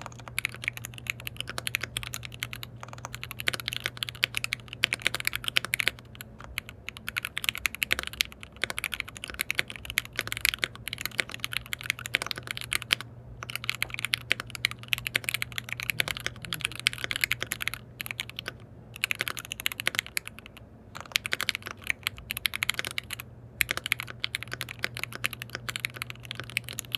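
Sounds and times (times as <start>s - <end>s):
mechanical keyboard typing: 0.0s - 26.9s
steady low hum: 0.0s - 26.9s.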